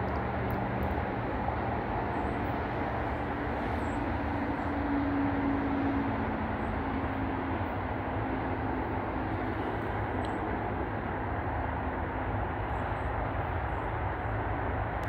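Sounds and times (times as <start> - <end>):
distant freight train rumble: 0.0 - 15.0.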